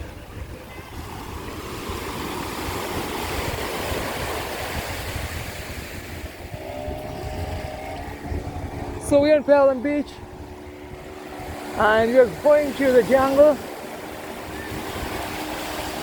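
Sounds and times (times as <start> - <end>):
sea waves washing up beach: 0.0 - 16.0
wind rumbling on microphone: 0.0 - 16.0.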